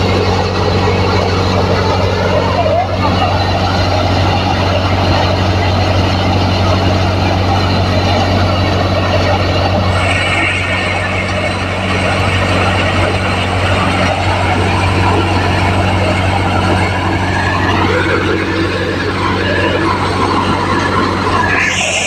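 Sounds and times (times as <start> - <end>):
tractor diesel engine hum: 0.0 - 22.0.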